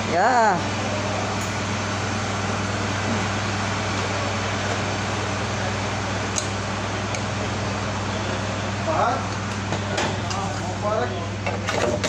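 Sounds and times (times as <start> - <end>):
mechanical hum with fan noise: 0.0 - 12.0.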